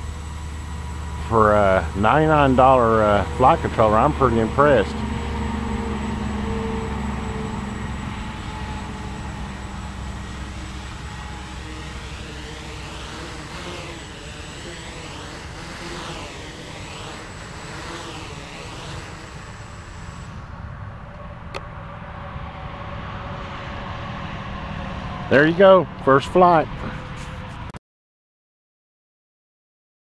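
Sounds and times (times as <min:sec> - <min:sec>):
quadcopter propellers buzzing: 0:00.0 - 0:23.3, 0:24.5 - 0:27.7.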